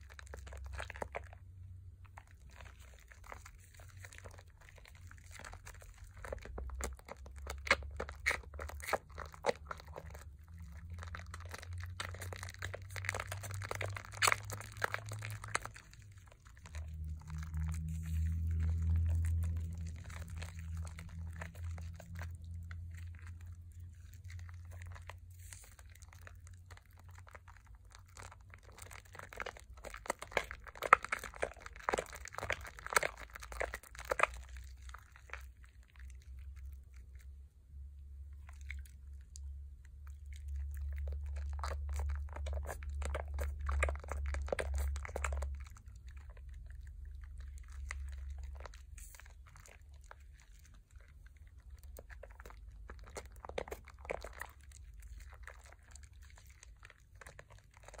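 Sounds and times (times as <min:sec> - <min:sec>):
hands squelching soap lather: 0:00.0 - 0:58.0
low steady hum: 0:00.0 - 0:58.0.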